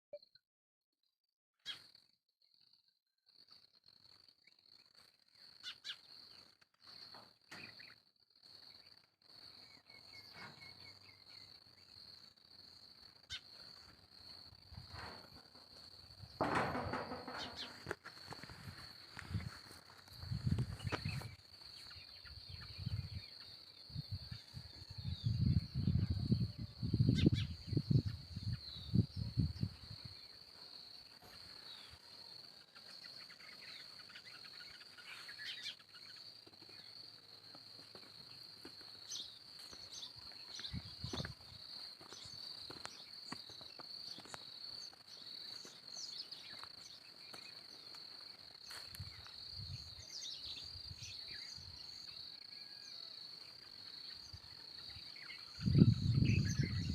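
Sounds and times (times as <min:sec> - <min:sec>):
crickets droning: 0:01.7 - 0:56.9.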